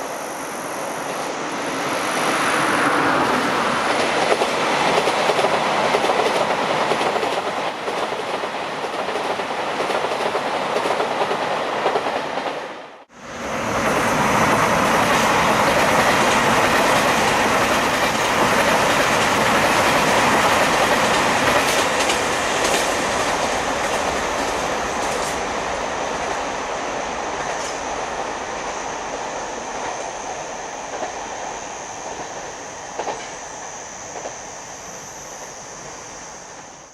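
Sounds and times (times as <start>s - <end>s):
diesel train passing: 0.0s - 36.9s.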